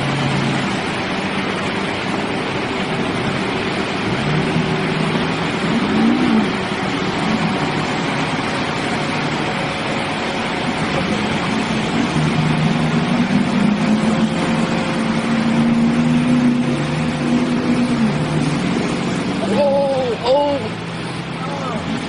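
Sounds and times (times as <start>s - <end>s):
loud rushing noise: 0.0s - 22.0s
truck engine droning: 0.0s - 22.0s.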